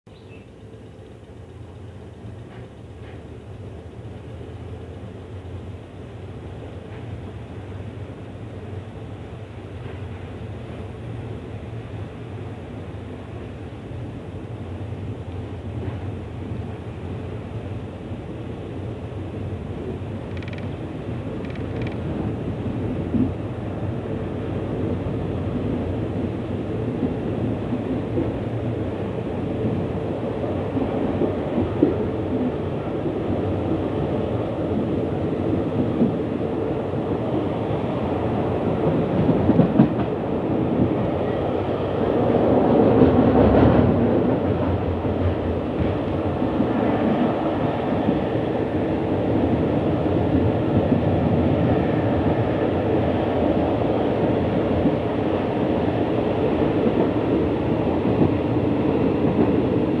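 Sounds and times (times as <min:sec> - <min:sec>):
train wheels on rails: 0:00.1 - 1:00.0.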